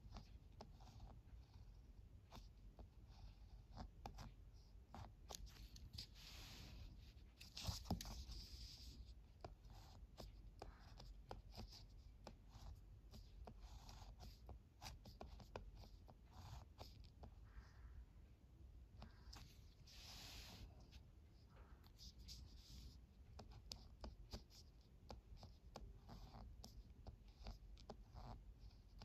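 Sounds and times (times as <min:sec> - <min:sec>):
ballpoint pen writing on paper: 0:00.0 - 0:17.9, 0:21.6 - 0:29.0.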